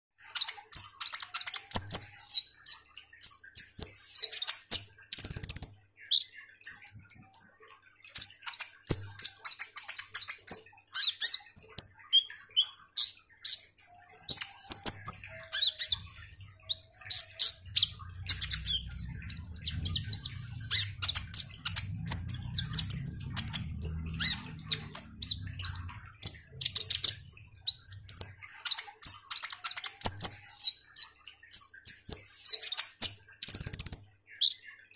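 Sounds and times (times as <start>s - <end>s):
bird chirping and trilling: 0.2s - 34.9s.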